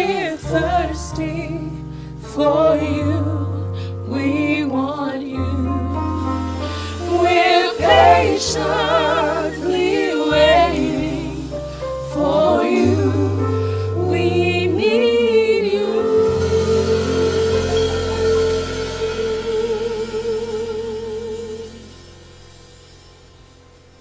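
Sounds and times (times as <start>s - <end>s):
gospel singers: 0.0s - 22.6s
bass guitar: 0.0s - 24.0s
keyboard: 0.0s - 24.0s.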